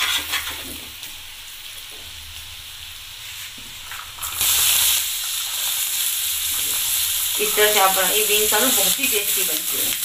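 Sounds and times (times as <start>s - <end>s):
oil sizzling: 0.0s - 10.0s
vegetables sizzling in hot oil: 0.0s - 10.0s.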